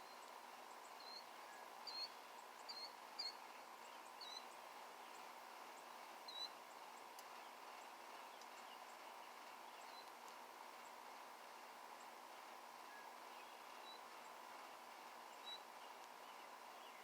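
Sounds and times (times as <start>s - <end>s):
faint steady hum: 0.0s - 17.0s
small birds chirping: 0.0s - 17.0s.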